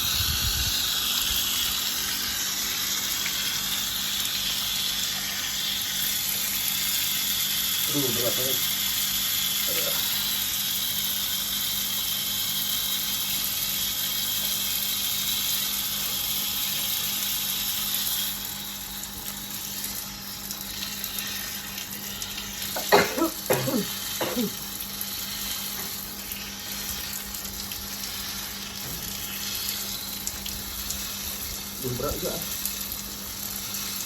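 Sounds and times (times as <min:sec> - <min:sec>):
water running from tap: 0:00.0 - 0:34.0.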